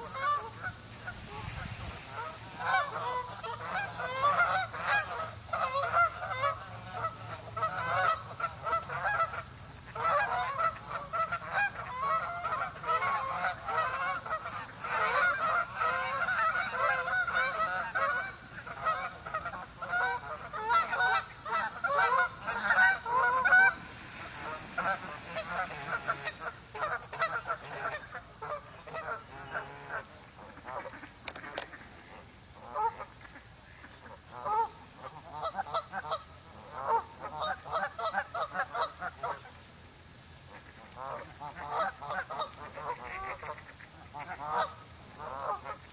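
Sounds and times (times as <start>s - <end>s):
geese honking: 0.0s - 39.6s, 40.5s - 45.9s.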